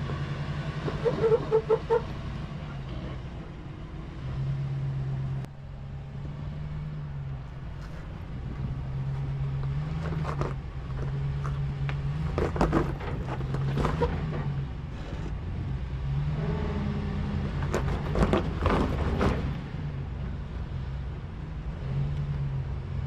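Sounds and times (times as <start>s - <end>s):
tires crunching and scraping on rock: 0.0s - 21.1s
truck engine running: 0.0s - 23.0s.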